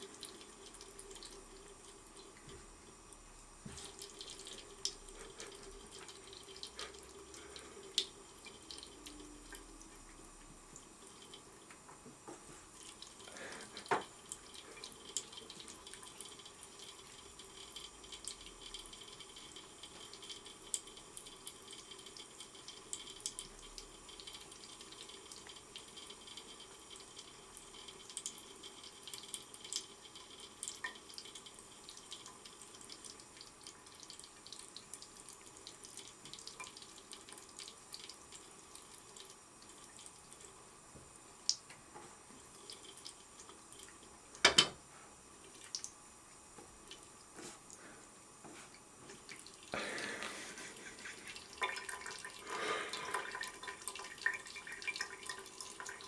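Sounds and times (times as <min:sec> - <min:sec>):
tap water running into sink: 0:00.0 - 0:44.8, 0:48.4 - 0:56.0.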